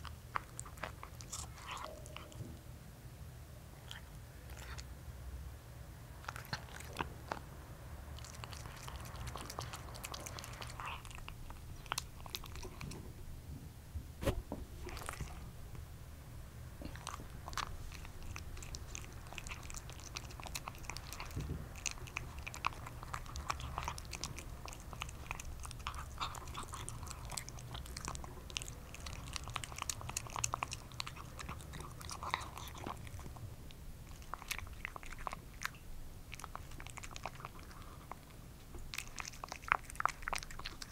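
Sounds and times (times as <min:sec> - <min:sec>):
cat chewing food: 0:00.0 - 0:02.6, 0:03.8 - 0:04.9, 0:06.2 - 0:13.3, 0:14.3 - 0:16.0, 0:16.6 - 0:40.9.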